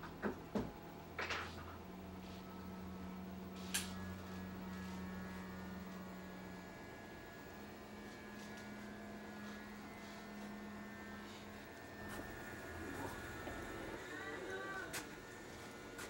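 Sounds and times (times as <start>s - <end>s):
hair clipper humming: 3.1s - 16.0s.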